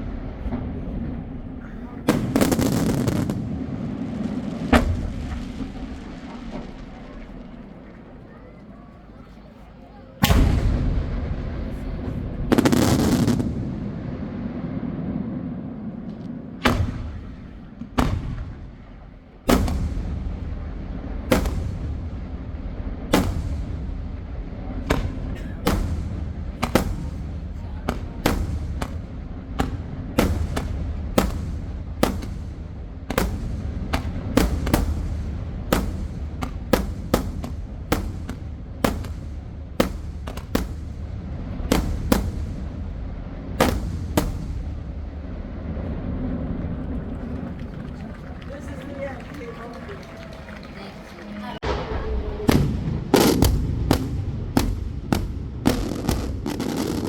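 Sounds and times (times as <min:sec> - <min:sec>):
low rumble: 0:00.0 - 0:02.5, 0:10.2 - 0:48.6, 0:51.6 - 0:57.0
fireworks bangs: 0:00.0 - 0:57.0.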